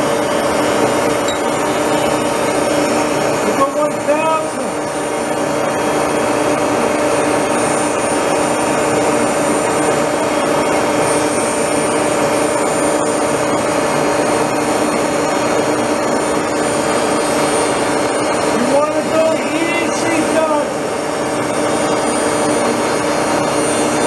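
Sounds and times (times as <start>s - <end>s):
grinder and lathe humming: 0.0s - 24.0s.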